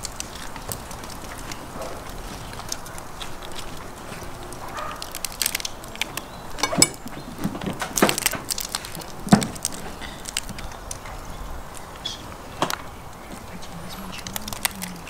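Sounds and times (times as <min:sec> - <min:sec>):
shells cracking and crunching: 0:00.0 - 0:15.0.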